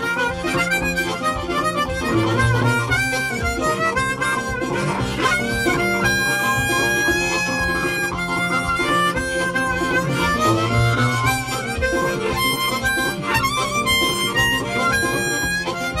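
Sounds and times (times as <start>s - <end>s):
harmonica music: 0.0s - 16.0s.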